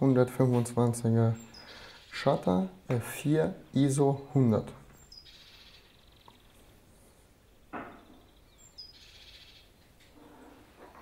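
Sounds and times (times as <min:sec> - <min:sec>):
small birds chirping: 0:00.1 - 0:10.6.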